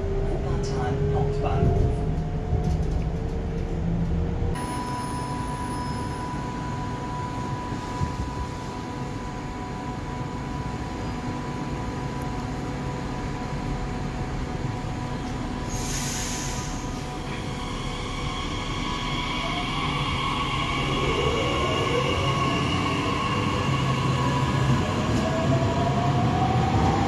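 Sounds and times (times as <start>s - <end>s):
electric train rumbling: 0.0s - 27.0s
high whine: 4.6s - 26.3s.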